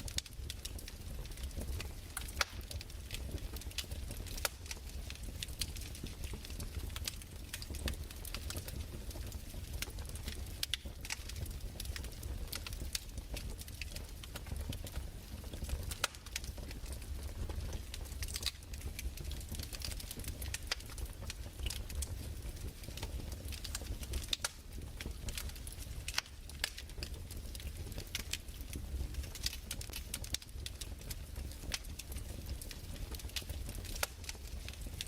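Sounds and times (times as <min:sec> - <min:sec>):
fireplace crackling: 0:00.0 - 0:35.0.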